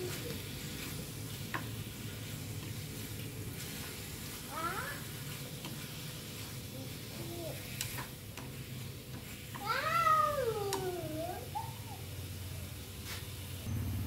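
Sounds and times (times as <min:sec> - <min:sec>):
meat sizzling in a pan: 0:00.0 - 0:13.7.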